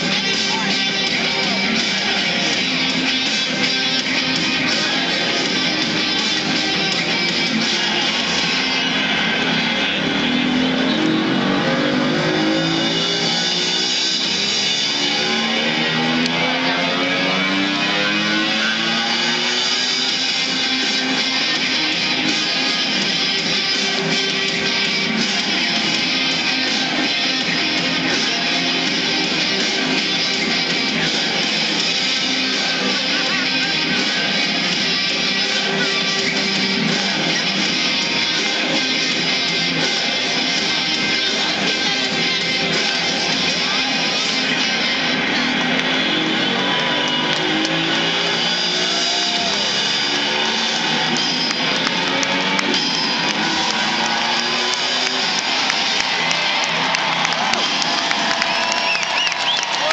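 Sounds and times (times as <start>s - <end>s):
rock music over loudspeakers: 0.0s - 59.9s.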